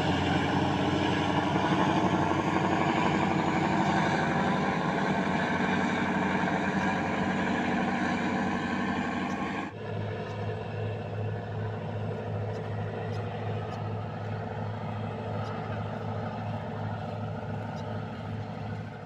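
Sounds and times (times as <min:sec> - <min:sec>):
ship engines droning: 0:00.0 - 0:19.0.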